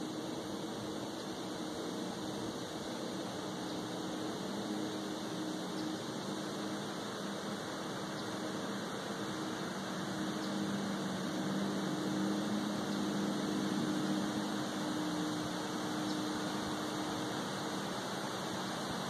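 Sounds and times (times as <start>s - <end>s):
constant hiss: 0.0s - 19.0s
distant engine droning: 0.0s - 19.0s.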